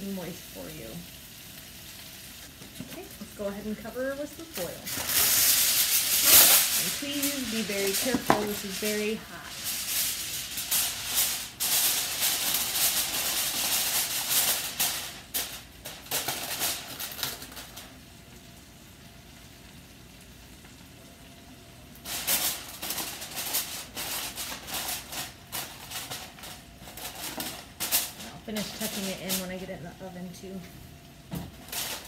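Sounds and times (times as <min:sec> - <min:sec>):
aluminum foil crinkling: 0:00.6 - 0:18.4, 0:21.9 - 0:30.4, 0:31.2 - 0:32.0.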